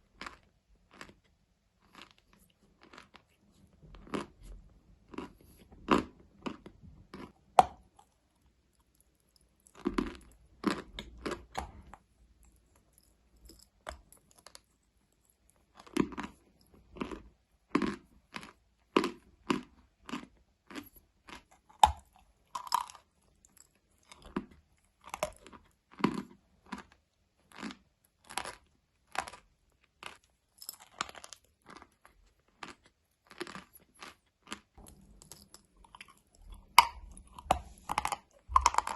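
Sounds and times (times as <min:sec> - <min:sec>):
chewing crunchy food: 0:00.0 - 0:38.9.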